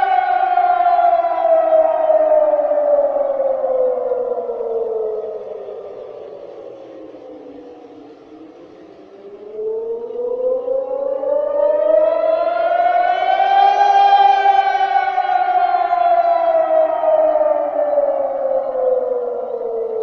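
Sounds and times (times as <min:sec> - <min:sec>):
air-raid siren wailing: 0:00.0 - 0:20.0.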